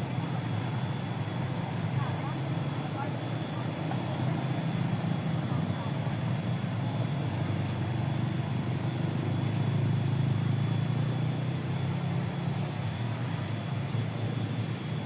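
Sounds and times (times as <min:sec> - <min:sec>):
small boat motor droning: 0:00.0 - 0:15.0.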